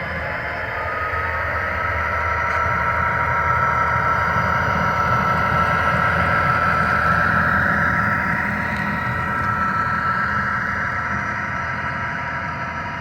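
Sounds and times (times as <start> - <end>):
model locomotive motor whine: 0.0 - 13.0.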